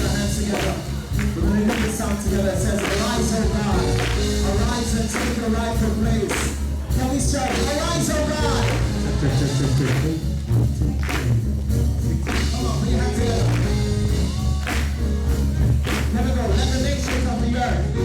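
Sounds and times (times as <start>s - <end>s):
bass guitar: 0.0s - 18.0s
drums: 0.0s - 18.0s
keyboard playing: 0.0s - 18.0s
voices singing: 0.0s - 18.0s.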